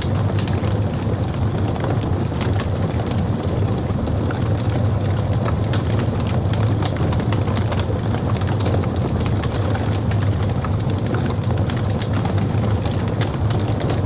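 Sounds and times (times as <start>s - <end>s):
fire crackling and popping: 0.0s - 14.0s
fire roaring: 0.0s - 14.0s.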